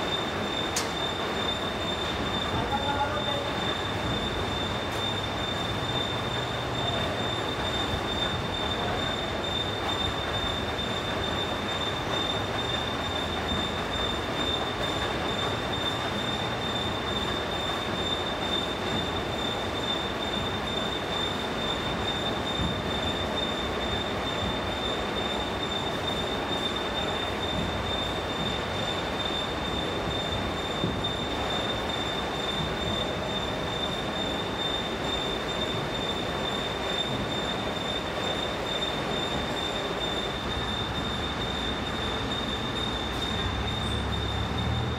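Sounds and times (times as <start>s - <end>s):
high-pitched whine: 0.0s - 44.9s.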